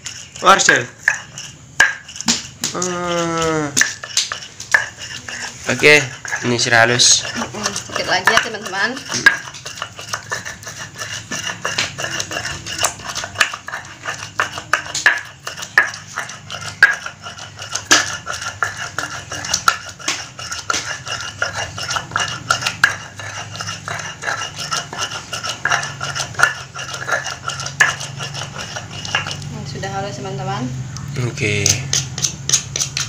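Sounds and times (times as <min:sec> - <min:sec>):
grinding stone clacks: 0:00.0 - 0:33.0
stone scraping on stone: 0:00.0 - 0:33.0.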